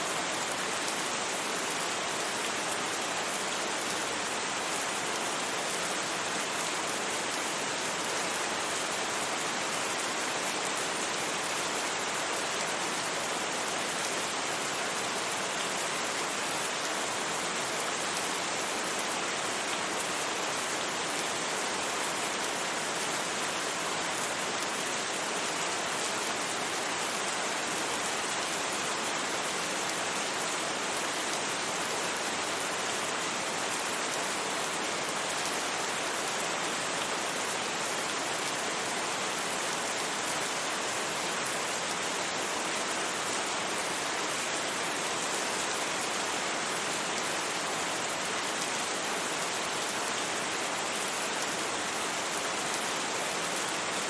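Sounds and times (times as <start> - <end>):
gentle rain: 0.0 - 54.0.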